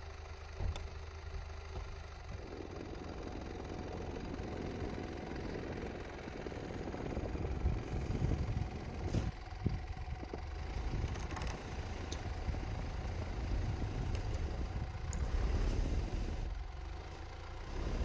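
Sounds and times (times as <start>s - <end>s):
diesel engine low rumble: 0.0s - 18.0s.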